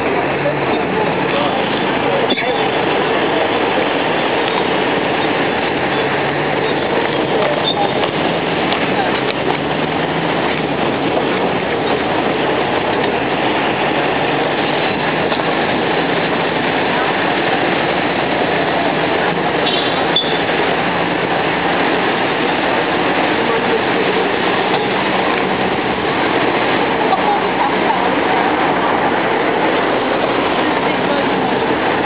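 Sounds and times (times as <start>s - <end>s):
city traffic: 0.0s - 32.0s
road train running: 0.0s - 32.0s.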